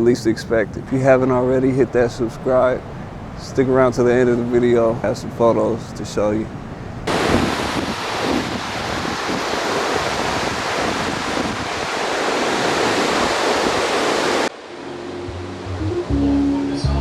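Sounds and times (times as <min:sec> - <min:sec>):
ocean surf breaking on beach: 0:00.0 - 0:16.8.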